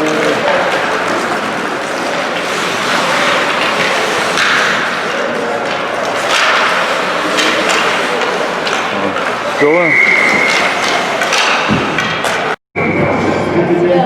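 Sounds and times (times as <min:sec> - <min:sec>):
sharp knocks and clacks: 0:00.0 - 0:12.6
play and spectator noise: 0:00.0 - 0:14.0.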